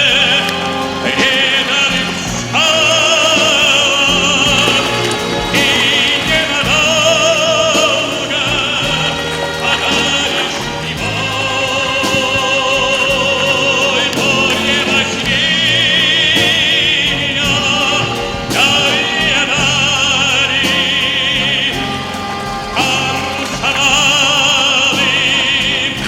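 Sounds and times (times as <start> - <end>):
musical accompaniment: 0.0 - 26.0
operatic singing with vibrato: 0.0 - 26.0.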